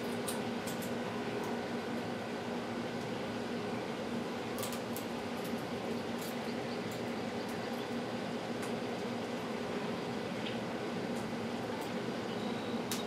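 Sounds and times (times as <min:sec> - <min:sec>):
fan hum with low drone: 0:00.0 - 0:13.0.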